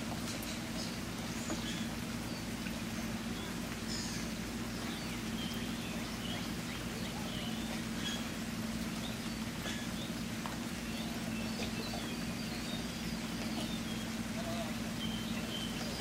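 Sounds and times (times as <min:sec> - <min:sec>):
birds chirping: 0:00.0 - 0:16.0
low constant hum: 0:00.0 - 0:16.0.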